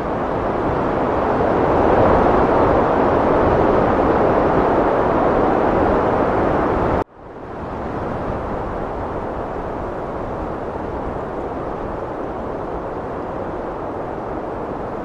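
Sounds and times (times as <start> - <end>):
heavy wind blowing: 0.0 - 15.0.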